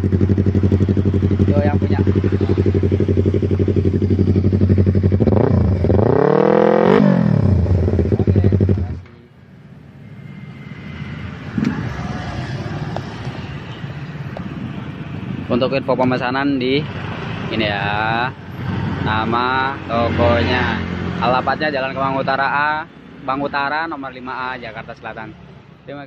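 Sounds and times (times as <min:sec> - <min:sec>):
motorcycle engine idling and revving: 0:00.0 - 0:25.8.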